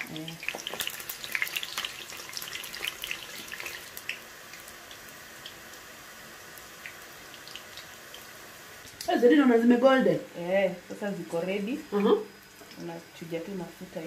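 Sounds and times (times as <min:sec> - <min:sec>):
slices frying in hot oil: 0:00.0 - 0:14.0.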